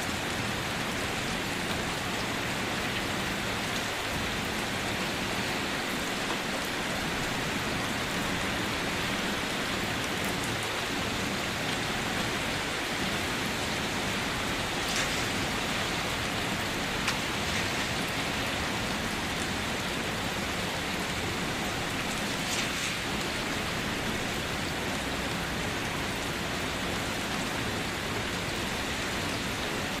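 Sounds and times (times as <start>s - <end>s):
loud individual raindrops: 0.0s - 26.9s
rain pattering on surfaces: 0.0s - 30.0s.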